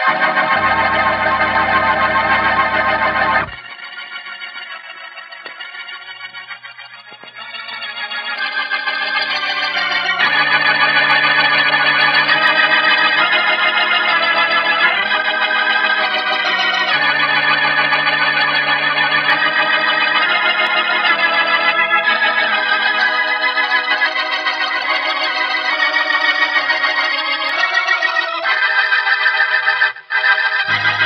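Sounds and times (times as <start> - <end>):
organ playing held chords: 0.0 - 31.0.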